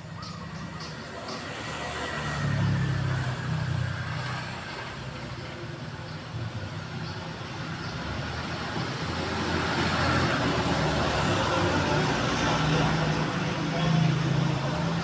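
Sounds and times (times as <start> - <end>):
road traffic noise: 0.0 - 15.0
vehicle engine: 0.0 - 15.0.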